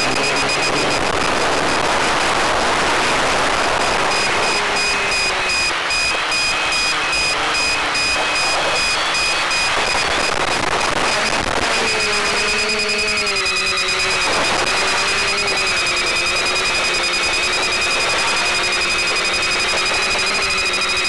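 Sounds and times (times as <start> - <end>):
pulsing high tones: 0.0 - 2.2, 3.7 - 21.0
faint whine rising and falling: 0.0 - 21.0
hissing static: 0.0 - 21.0.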